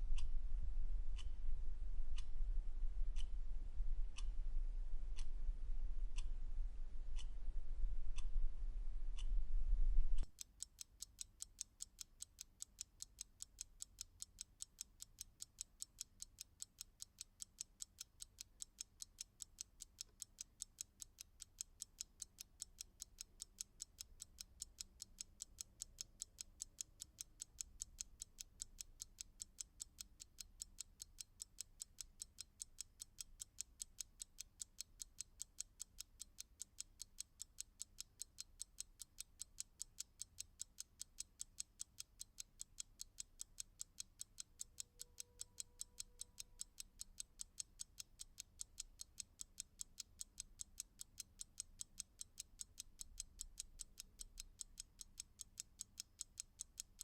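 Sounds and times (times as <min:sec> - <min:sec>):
clock ticking: 0:10.2 - 0:57.0.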